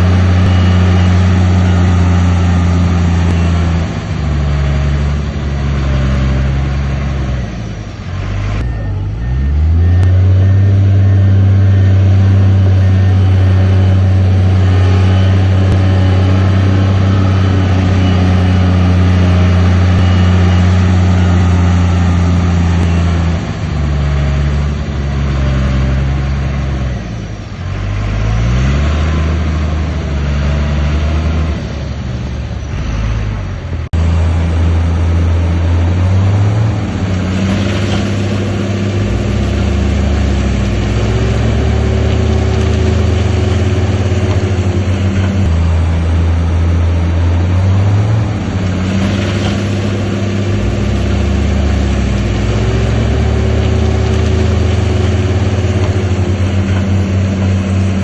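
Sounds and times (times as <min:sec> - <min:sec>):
heavy machinery diesel engine revving: 0:00.0 - 0:58.0.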